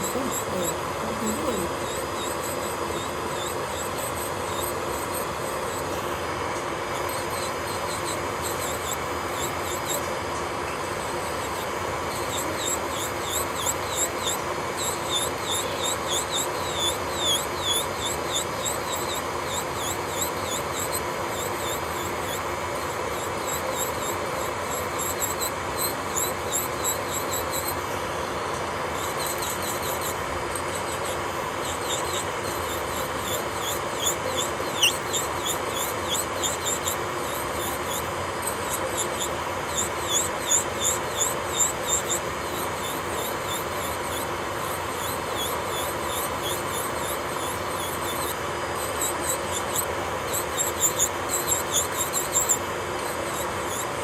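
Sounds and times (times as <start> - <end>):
electric nail drill whining: 0.0 - 54.0.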